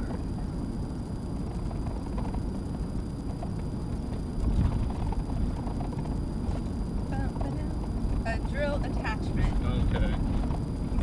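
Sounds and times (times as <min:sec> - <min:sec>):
road and engine rumble in truck cab: 0:00.0 - 0:11.0.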